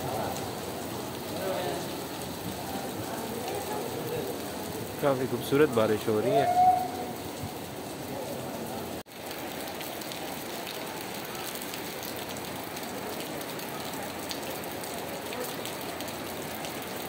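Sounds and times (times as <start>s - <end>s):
heavy rain on wet ground: 0.0s - 17.0s.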